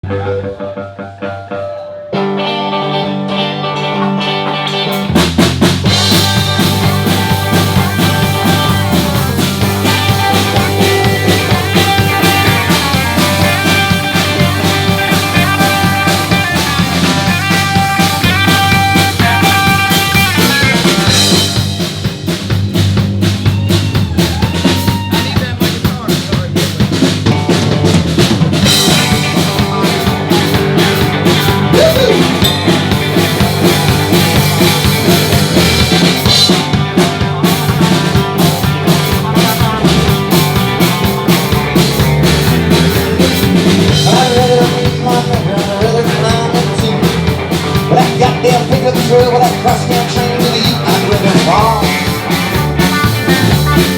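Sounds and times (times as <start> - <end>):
live rock band playing: 0.0 - 53.9
drum kit snare and bass drum: 4.9 - 53.9.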